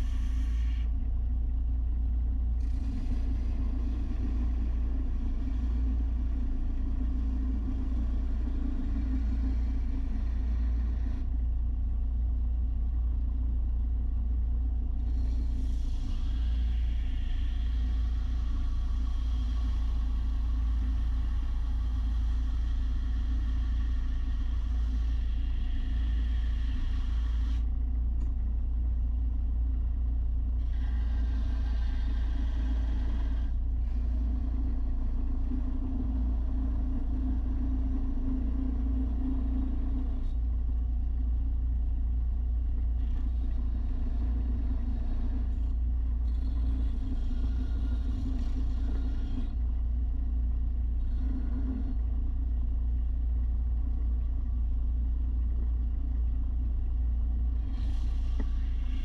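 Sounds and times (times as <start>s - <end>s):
machine rumbling and humming: 0.0s - 59.0s.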